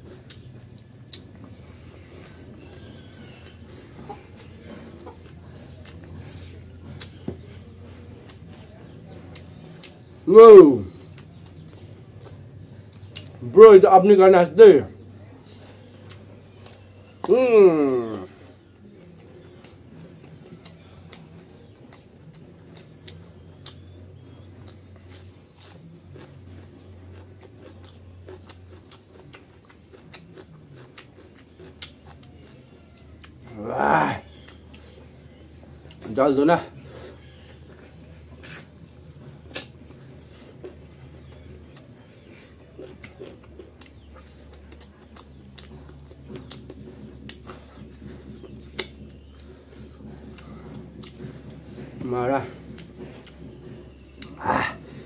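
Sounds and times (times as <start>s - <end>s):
mouth chewing and lip smacking: 0.0s - 14.1s, 14.9s - 55.0s
steady low hum: 0.0s - 55.0s.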